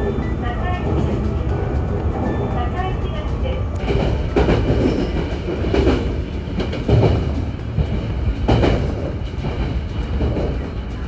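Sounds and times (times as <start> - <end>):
train wheels rumbling: 0.0 - 11.0
wheel clack over rail joints: 0.0 - 11.0.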